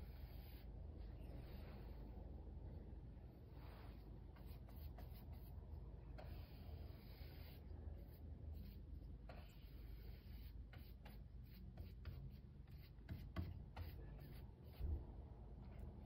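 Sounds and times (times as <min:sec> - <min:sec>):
faint scratching and rubbing: 0:00.0 - 0:15.0.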